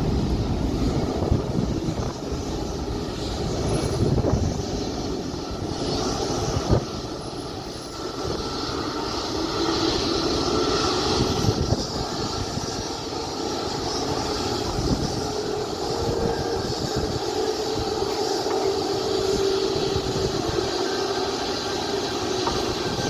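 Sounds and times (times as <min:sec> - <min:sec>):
jet engines rumbling: 0:00.0 - 0:23.0
wind buffeting microphone: 0:00.0 - 0:23.0.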